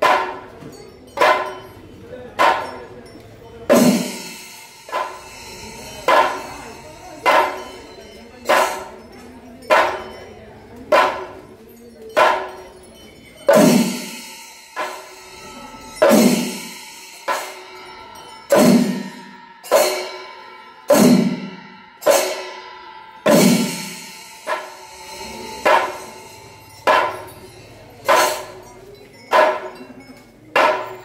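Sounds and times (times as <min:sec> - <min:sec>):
drums and cymbals striking together: 0:00.0 - 0:31.0.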